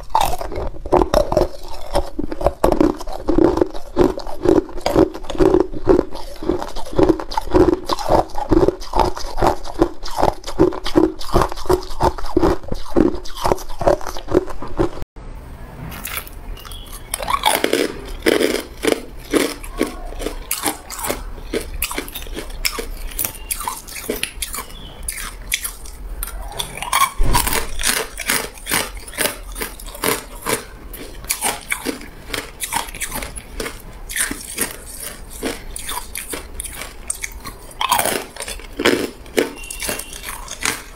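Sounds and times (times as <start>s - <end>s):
ice cubes crunching in mouth: 0.0s - 15.0s, 16.0s - 40.9s.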